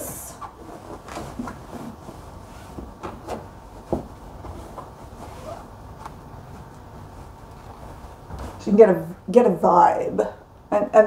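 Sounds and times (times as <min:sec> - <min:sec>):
heavy fabric rustling: 0:00.0 - 0:09.1.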